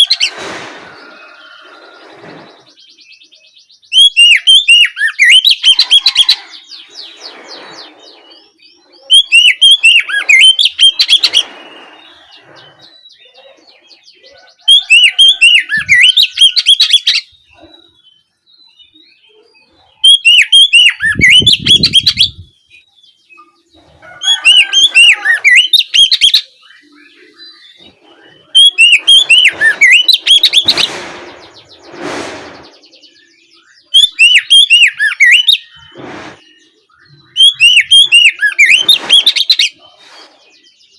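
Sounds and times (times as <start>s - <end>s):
songbird chirping song: 0.0s - 40.9s.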